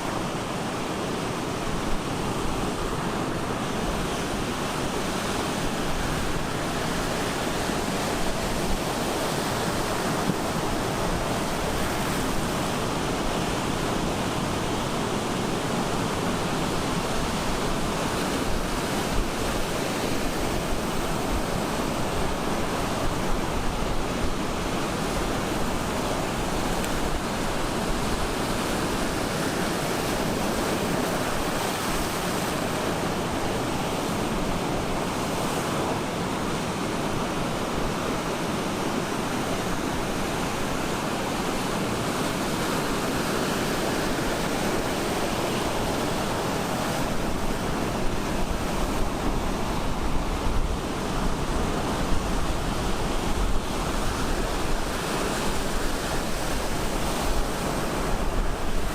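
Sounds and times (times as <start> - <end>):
surf breaking on beach: 0.0 - 58.9.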